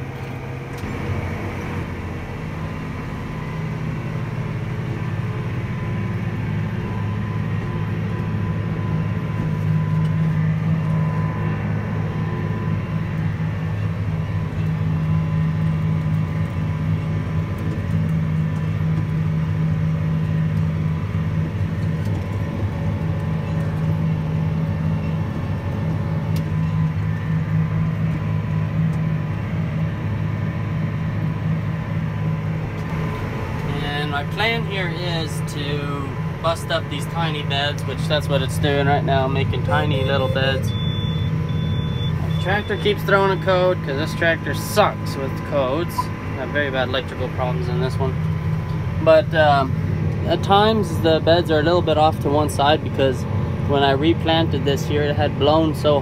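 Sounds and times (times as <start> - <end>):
tractor diesel engine droning: 0.0 - 56.0
faint steady whine: 0.1 - 56.0.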